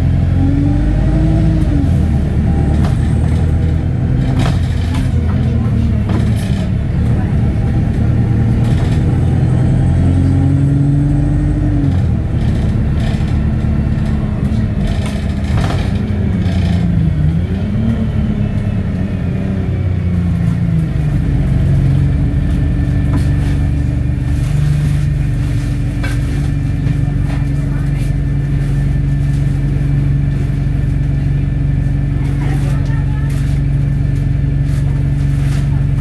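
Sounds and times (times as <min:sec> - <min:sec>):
bus body rattling: 0:00.0 - 0:36.0
bus diesel engine: 0:00.0 - 0:36.0.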